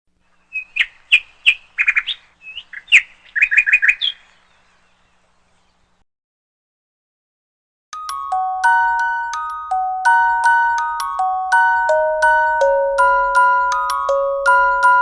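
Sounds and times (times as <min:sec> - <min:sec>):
bird chirping: 0:00.2 - 0:06.0, 0:08.0 - 0:15.0.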